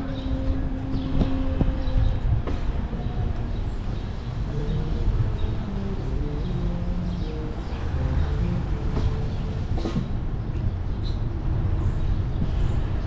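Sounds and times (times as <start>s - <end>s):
steady low tone: 0.0s - 12.8s
wind rumbling on microphone: 0.0s - 13.0s.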